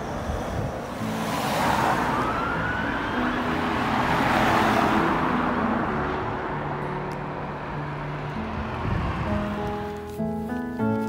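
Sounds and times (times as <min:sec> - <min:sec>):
cars passing close: 0:00.0 - 0:11.0
background music: 0:01.0 - 0:11.0.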